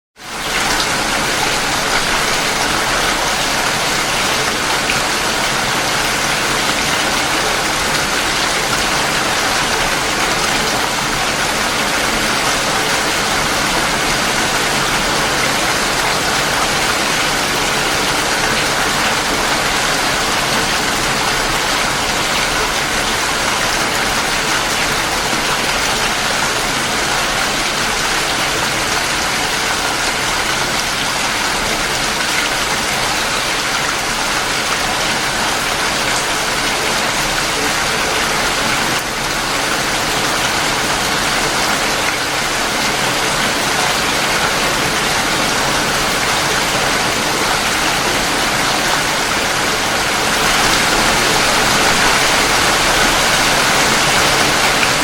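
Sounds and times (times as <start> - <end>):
heavy rain falling: 0.2 - 55.0.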